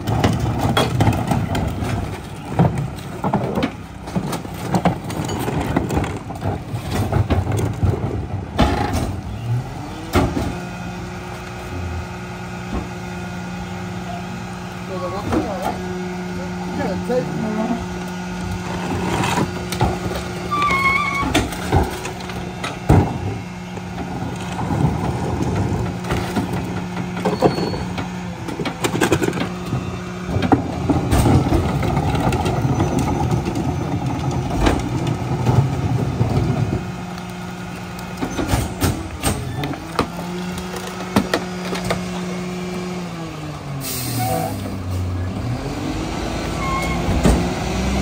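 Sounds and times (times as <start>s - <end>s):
trash bins banging on hopper: 0.0s - 14.0s, 14.9s - 48.0s
diesel engine idling and revving: 0.0s - 48.0s
garbage truck packer compacting: 0.0s - 48.0s.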